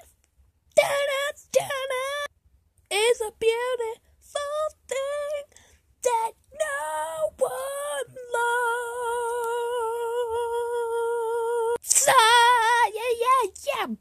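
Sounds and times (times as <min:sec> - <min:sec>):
child singing wordless notes: 0:00.8 - 0:02.3, 0:02.9 - 0:14.0.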